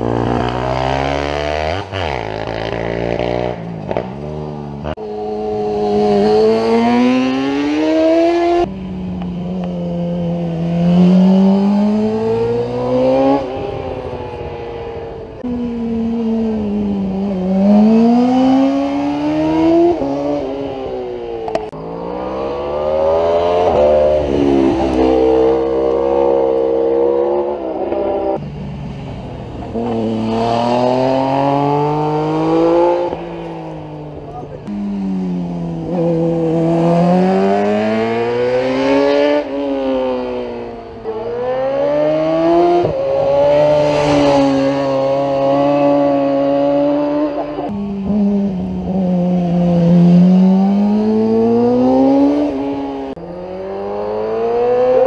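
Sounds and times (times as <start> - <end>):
racing engines revving: 0.0 - 8.8, 9.4 - 55.0.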